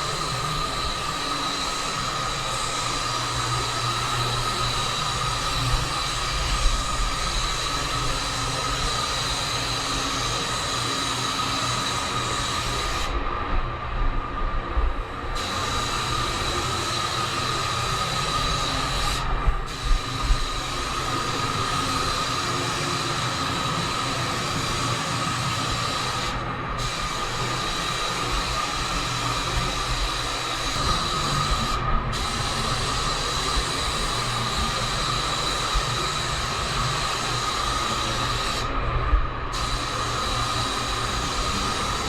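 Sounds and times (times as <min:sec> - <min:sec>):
compressed air hissing: 0:00.0 - 0:13.2, 0:15.2 - 0:42.0
constant whine: 0:00.0 - 0:42.0.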